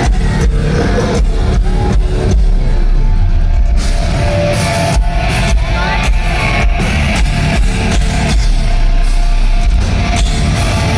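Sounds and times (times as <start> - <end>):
electric guitars: 0.0 - 10.9
fast drum kit: 0.0 - 10.9.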